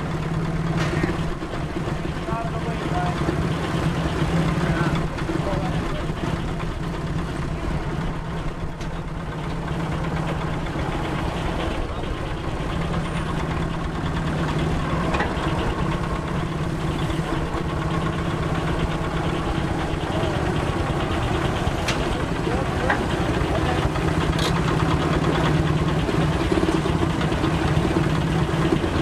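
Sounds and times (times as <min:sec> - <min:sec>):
steam traction engine running: 0:00.0 - 0:29.0.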